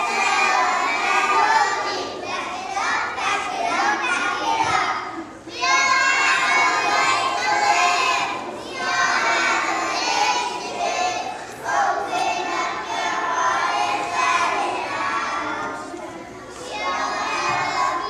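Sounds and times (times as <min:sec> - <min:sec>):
children singing: 0:00.0 - 0:18.0.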